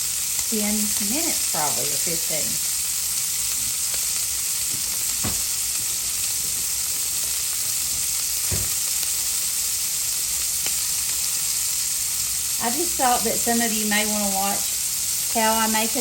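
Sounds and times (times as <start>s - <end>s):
steaks sizzling in a pan: 0.0s - 16.0s.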